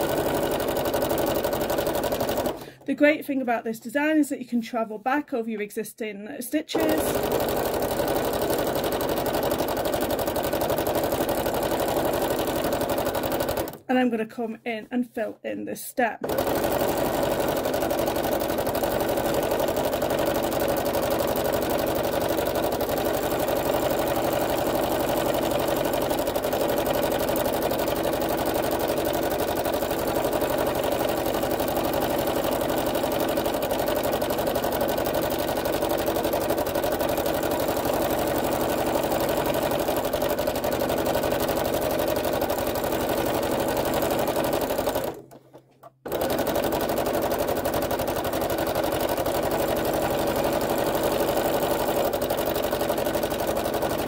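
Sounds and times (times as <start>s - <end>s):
sewing machine stitching: 0.0s - 3.0s, 6.7s - 13.9s, 16.2s - 54.0s.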